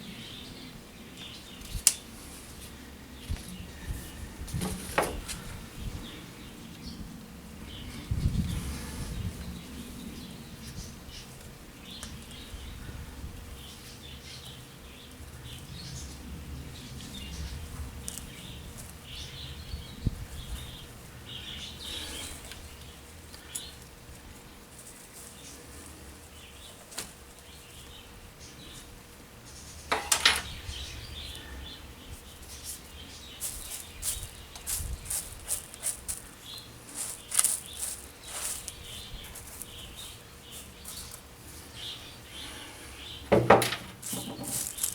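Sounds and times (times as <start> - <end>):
rustle: 0.0 - 44.9
small birds chirping: 0.0 - 44.9.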